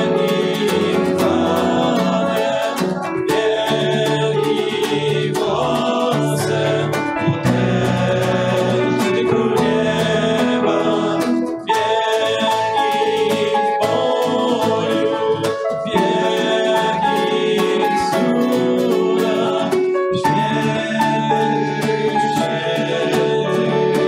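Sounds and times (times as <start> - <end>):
men singing a worship song: 0.0 - 24.0
piano: 0.0 - 24.0
strummed acoustic guitar: 0.0 - 24.0.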